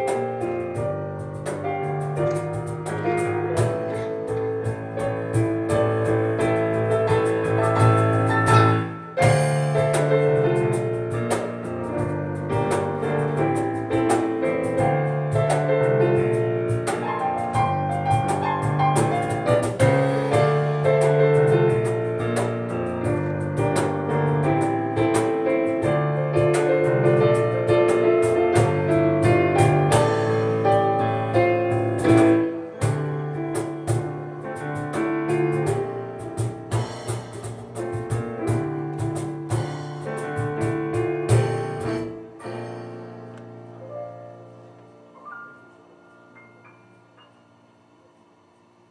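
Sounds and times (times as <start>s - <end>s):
cajon strikes: 0.0s - 43.7s
acoustic piano: 0.0s - 48.9s.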